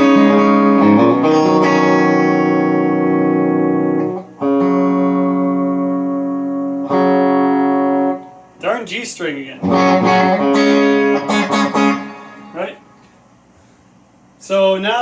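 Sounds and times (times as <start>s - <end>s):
electric guitar chords ringing: 0.0s - 13.3s.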